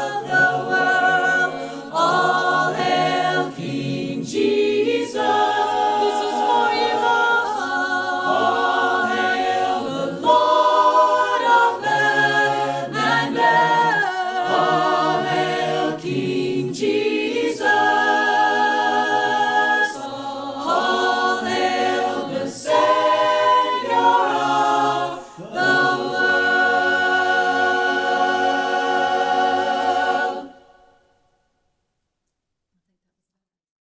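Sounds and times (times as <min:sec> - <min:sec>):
choir singing a cappella: 0:00.0 - 0:31.1.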